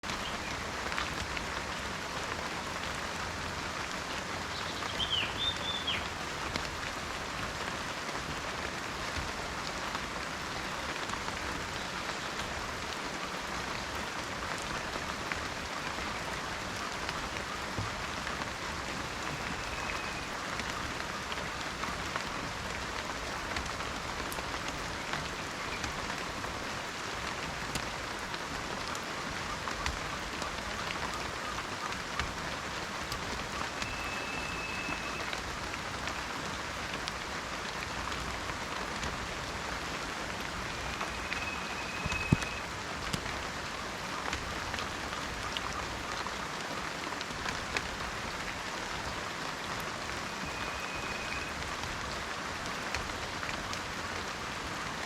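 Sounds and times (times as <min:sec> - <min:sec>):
rain falling in a forest: 0:00.0 - 0:55.0.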